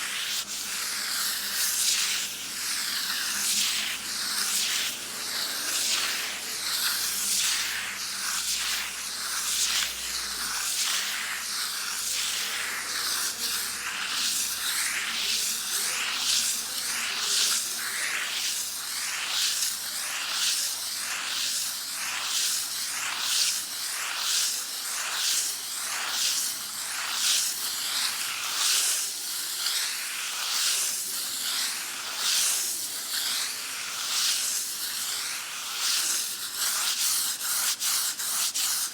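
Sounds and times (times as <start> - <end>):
sandpaper scraping wall: 0.0 - 38.9.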